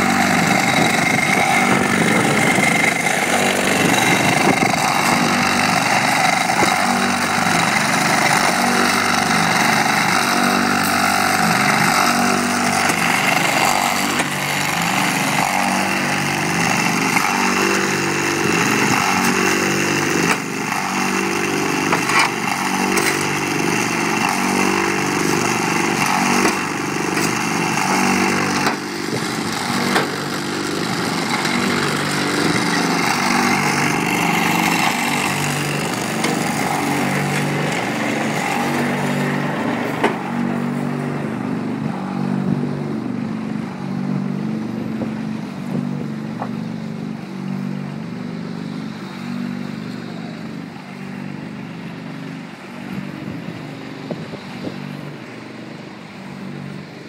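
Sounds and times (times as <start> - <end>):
vibrator motors droning: 0.0 - 57.0.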